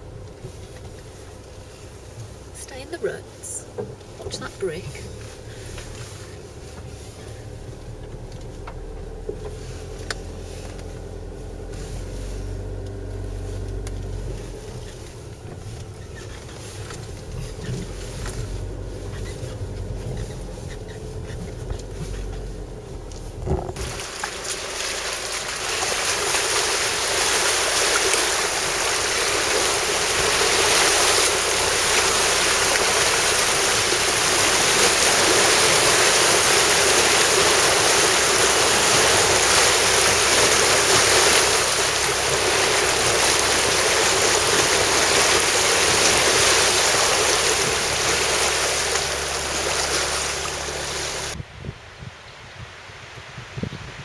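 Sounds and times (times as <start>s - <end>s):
water rushing and splashing against car: 0.0s - 51.4s
low car engine hum: 0.0s - 52.3s.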